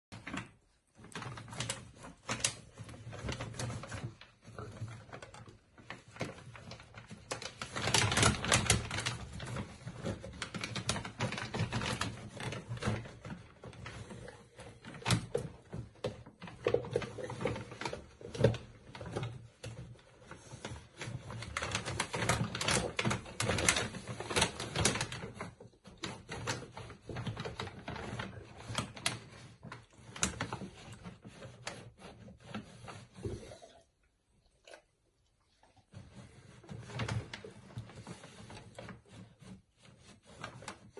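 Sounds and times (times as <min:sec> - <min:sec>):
dog rummaging in a bag: 0:00.1 - 0:33.6.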